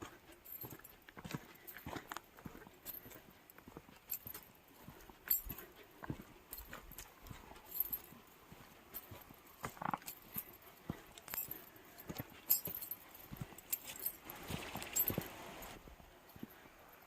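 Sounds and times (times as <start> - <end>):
footsteps walking: 0.0 - 16.7.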